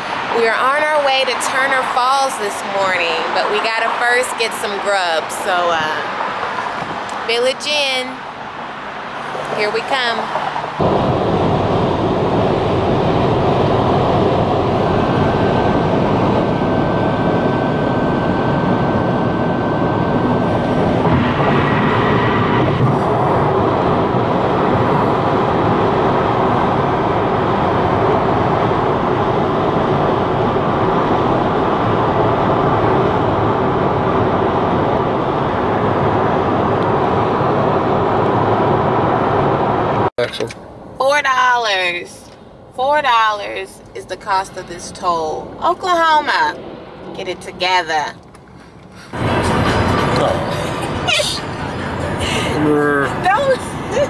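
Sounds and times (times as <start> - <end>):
road and wind noise: 0.0 - 54.0.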